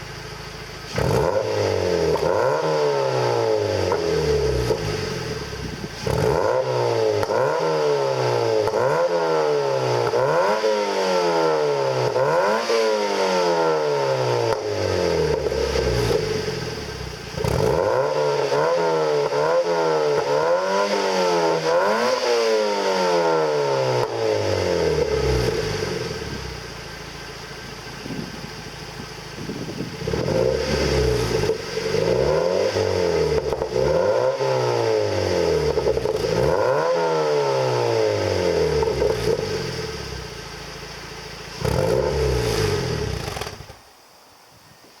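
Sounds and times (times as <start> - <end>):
car engine revving and idling: 0.0 - 44.0.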